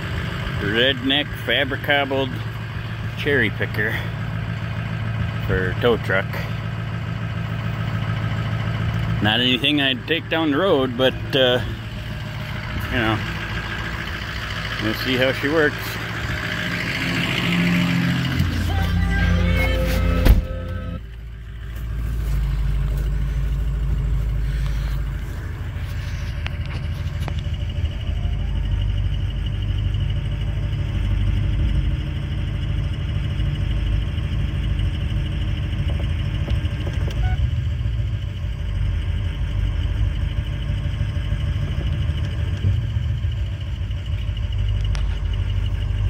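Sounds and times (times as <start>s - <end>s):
truck engine low rumble: 0.0s - 46.0s.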